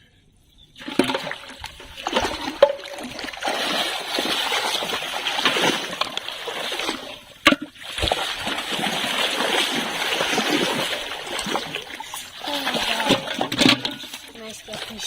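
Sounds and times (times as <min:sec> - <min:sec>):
fish thrashing at water surface: 0:00.8 - 0:15.0
water splashing and sloshing: 0:00.8 - 0:15.0.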